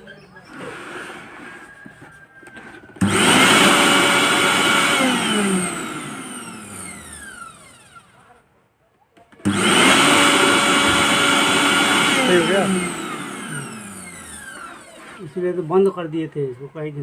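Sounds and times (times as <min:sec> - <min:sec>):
mixer grinder motor whining: 0:00.0 - 0:08.3, 0:09.4 - 0:17.0.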